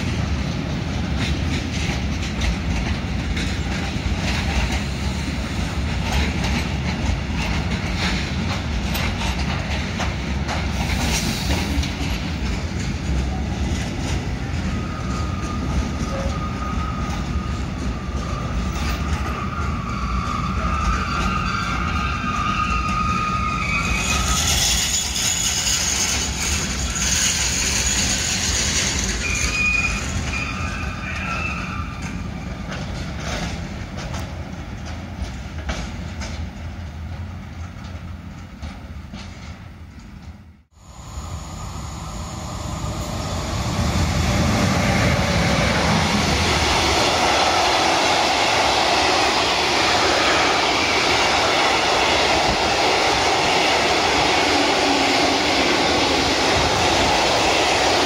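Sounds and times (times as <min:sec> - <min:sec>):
freight train rolling past: 0:00.0 - 0:58.0
train wheels rumbling on rails: 0:00.0 - 0:58.0.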